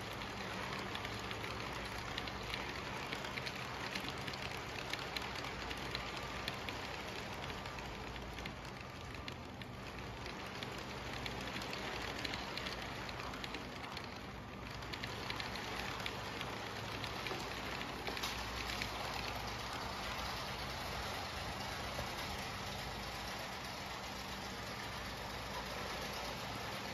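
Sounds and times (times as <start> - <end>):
toy train wheels clicking on track: 0.0 - 26.9.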